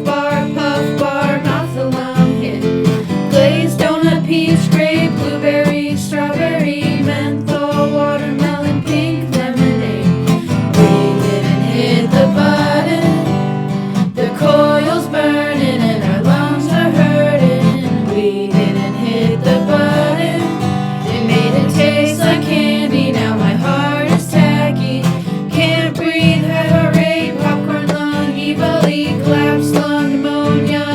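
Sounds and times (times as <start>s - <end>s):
strummed acoustic guitar: 0.0s - 30.9s
voices singing: 0.0s - 30.9s.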